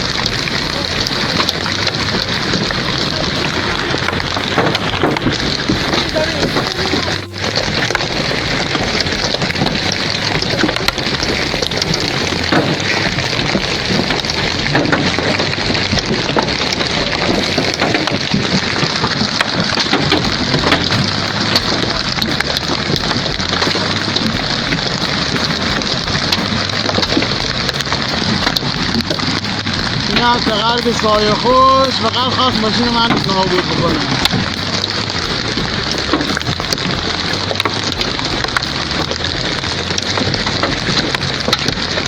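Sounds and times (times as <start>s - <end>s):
hail pelting down: 0.0s - 42.0s.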